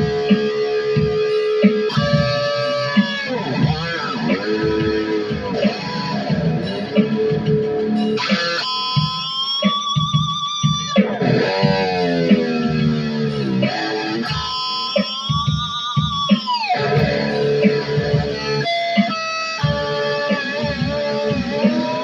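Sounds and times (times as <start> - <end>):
electric guitar with vibrato: 0.0 - 22.0.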